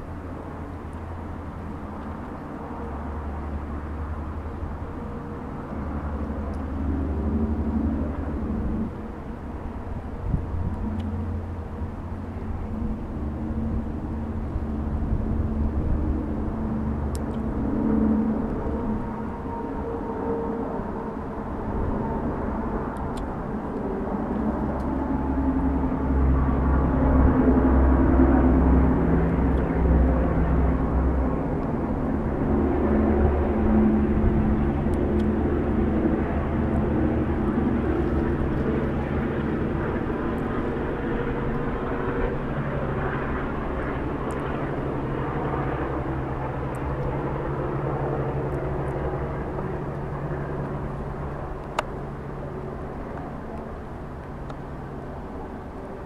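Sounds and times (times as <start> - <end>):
engine drone passing: 0.0 - 56.0.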